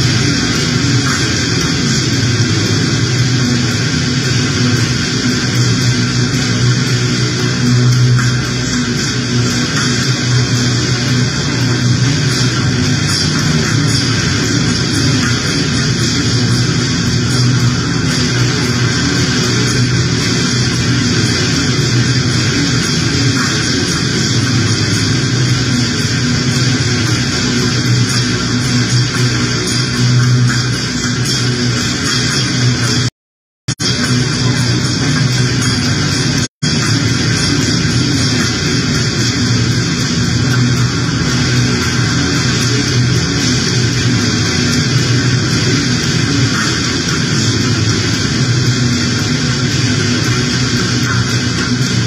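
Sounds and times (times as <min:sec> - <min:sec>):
harsh noise music hiss: 0:00.0 - 0:33.1, 0:33.7 - 0:52.0
low hum: 0:00.0 - 0:33.1, 0:33.7 - 0:52.0
steady low drone: 0:00.0 - 0:33.1, 0:33.7 - 0:52.0.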